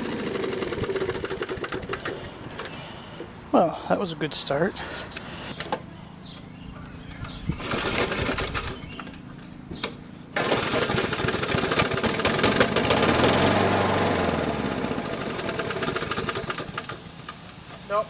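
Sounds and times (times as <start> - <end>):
lawn mower engine starting and running: 0.0 - 18.0.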